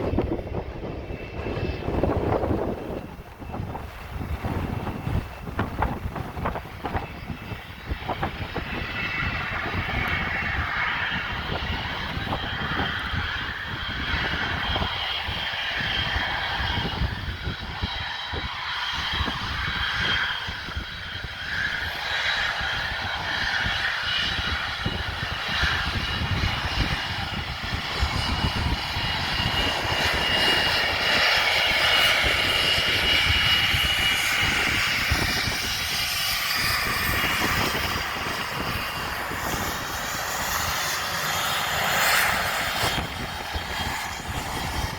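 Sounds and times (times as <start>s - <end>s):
aircraft engine running: 0.0s - 44.9s.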